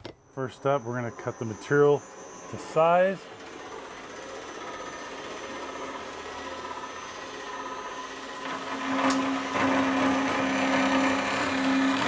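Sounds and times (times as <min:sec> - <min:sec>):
power saw cutting aluminum: 0:00.4 - 0:12.0.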